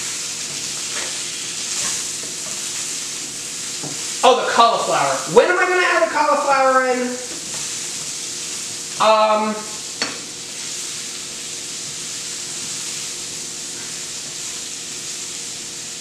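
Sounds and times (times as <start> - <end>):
mushrooms sizzling in frying pan: 0.0 - 16.0.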